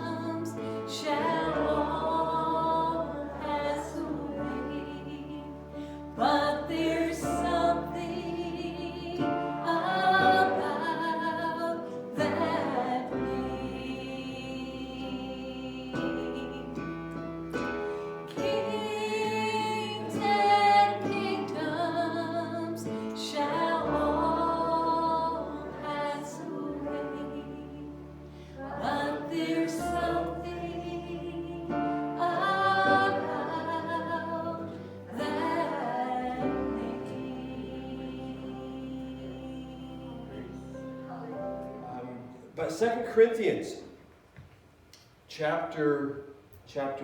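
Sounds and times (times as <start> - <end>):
voices singing worship song: 0.0 - 43.6.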